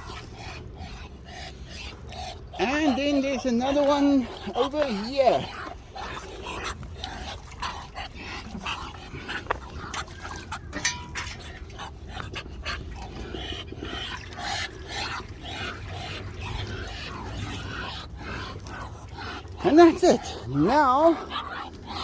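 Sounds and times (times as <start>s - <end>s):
dog-like animal noises: 0.0s - 22.0s.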